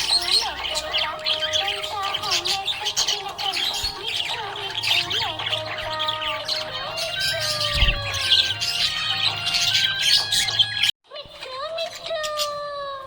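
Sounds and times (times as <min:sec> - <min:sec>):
budgerigars chirping and squawking: 0:00.0 - 0:12.8.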